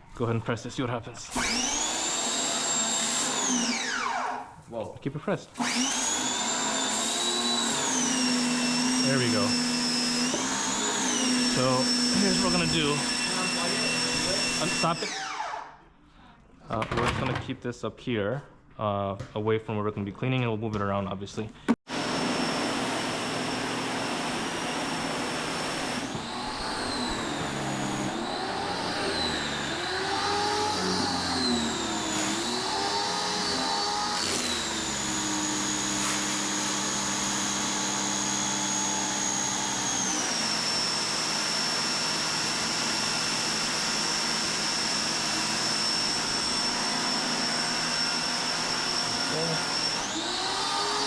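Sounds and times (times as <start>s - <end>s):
pressure washer motor whine: 1.3s - 4.5s, 5.6s - 15.7s, 21.9s - 51.0s.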